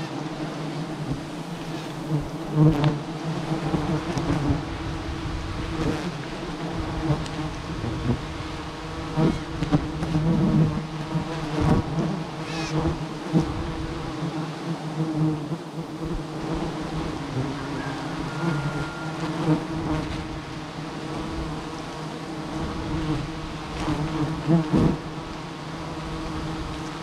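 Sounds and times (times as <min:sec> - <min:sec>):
bee swarm droning: 0:00.0 - 0:27.0
single bee buzzing past: 0:00.0 - 0:27.0.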